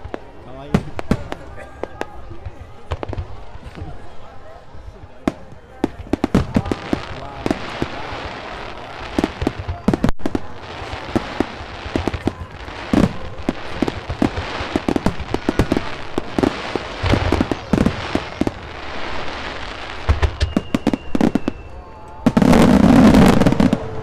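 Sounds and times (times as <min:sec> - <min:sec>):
firework bangs and crackle: 0:00.0 - 0:24.0.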